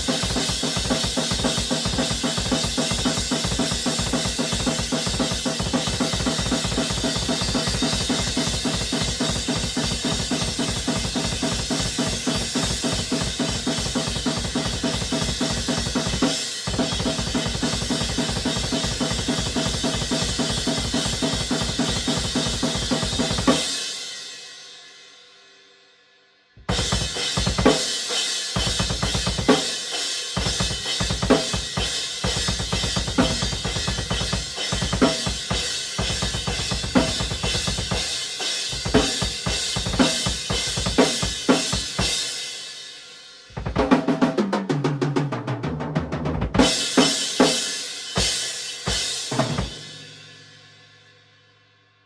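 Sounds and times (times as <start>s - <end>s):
rock drum kit played hard: 0.0s - 25.1s, 26.6s - 50.8s.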